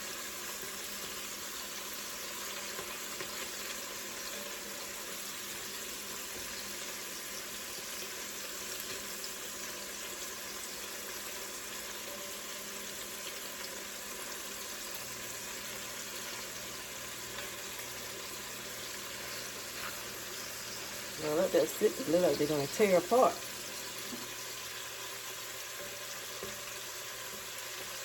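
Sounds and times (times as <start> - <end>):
meatballs sizzling in a pan: 0.0 - 28.0.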